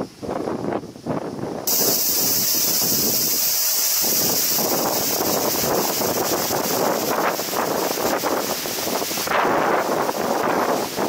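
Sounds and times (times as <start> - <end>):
gusty wind buffeting microphone: 0.0 - 11.0
high-pitched hiss: 0.7 - 11.0.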